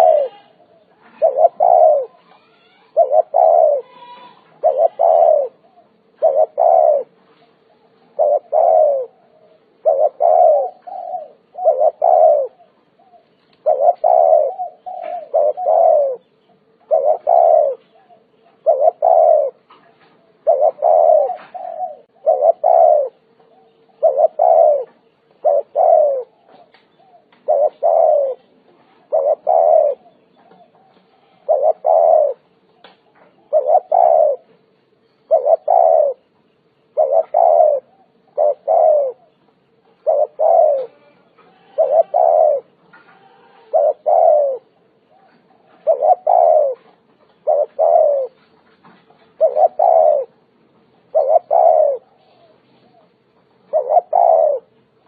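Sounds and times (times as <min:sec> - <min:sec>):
dove cooing: 0:00.0 - 0:55.0
faint steady hum: 0:00.0 - 0:55.0.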